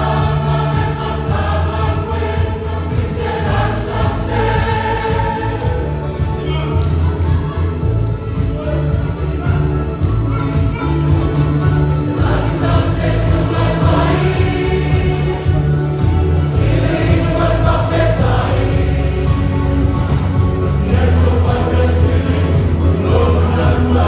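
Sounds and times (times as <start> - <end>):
bass-heavy accompaniment: 0.0 - 24.0
church choir singing a hymn: 0.0 - 24.0.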